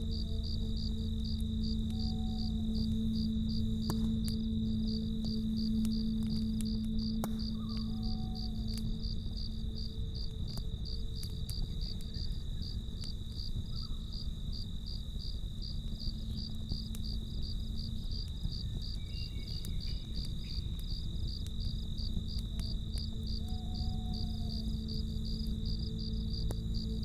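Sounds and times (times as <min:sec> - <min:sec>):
campfire crackling: 0:00.0 - 0:27.0
crickets chirping: 0:00.0 - 0:27.0
high insect trill: 0:00.0 - 0:27.0.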